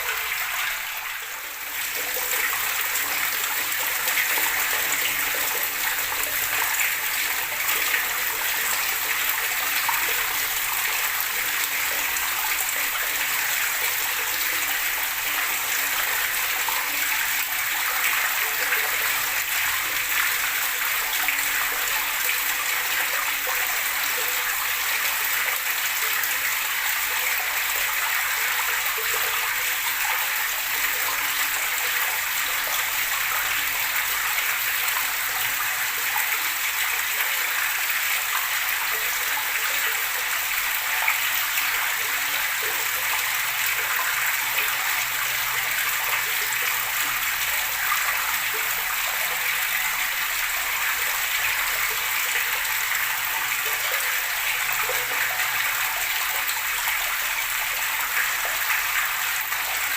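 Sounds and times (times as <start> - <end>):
running water gurgling: 0.0 - 59.9.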